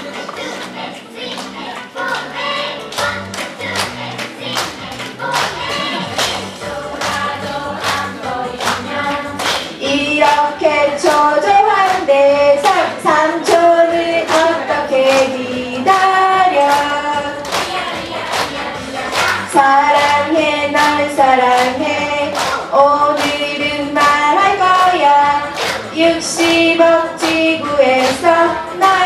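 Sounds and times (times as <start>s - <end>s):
upbeat pop song: 0.0s - 29.0s
women singing: 0.0s - 29.0s.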